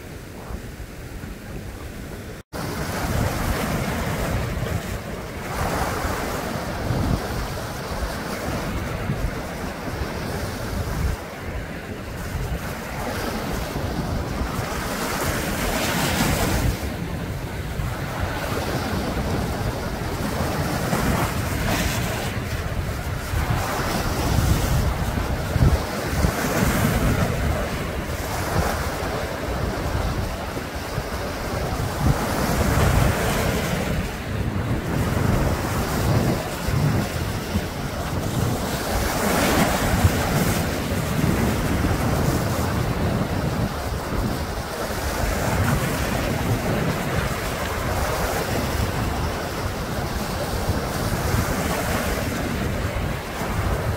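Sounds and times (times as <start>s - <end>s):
sea waves washing over rocks: 0.0s - 53.9s.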